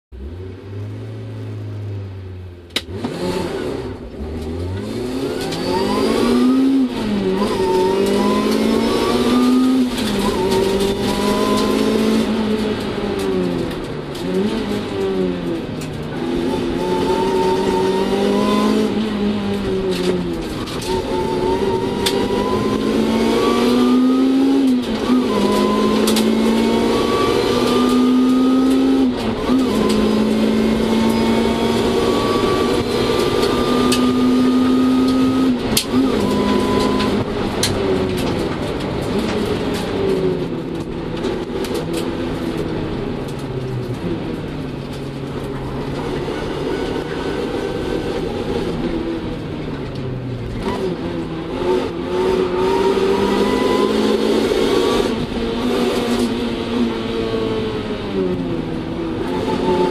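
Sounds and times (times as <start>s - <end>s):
car engine accelerating: 0.1s - 59.9s.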